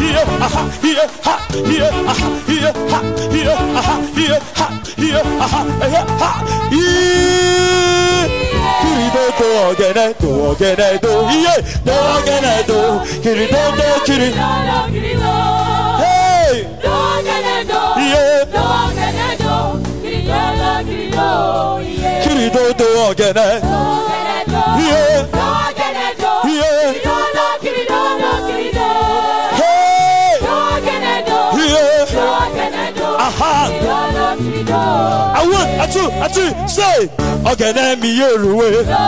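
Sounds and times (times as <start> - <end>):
choir singing gospel: 0.0 - 39.0
instrumental backing: 0.0 - 39.0.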